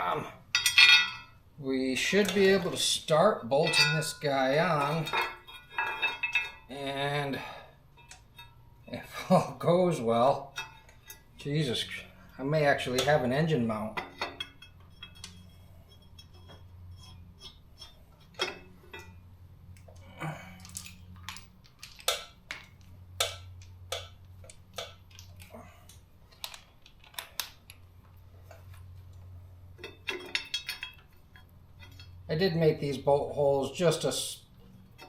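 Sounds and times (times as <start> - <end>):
bolts and tools clinking on steel: 0.5 - 1.4, 2.0 - 27.8, 28.5 - 35.0.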